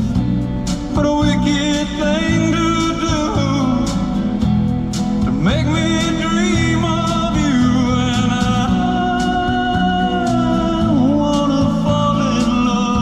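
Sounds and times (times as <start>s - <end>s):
guitar accompaniment: 0.0s - 13.0s
steady beat: 0.0s - 13.0s
man singing: 0.8s - 4.5s, 5.2s - 13.0s.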